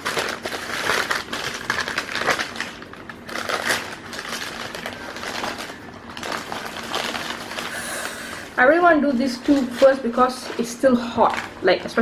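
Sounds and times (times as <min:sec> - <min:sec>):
food packaging crinkling: 0:00.0 - 0:12.0.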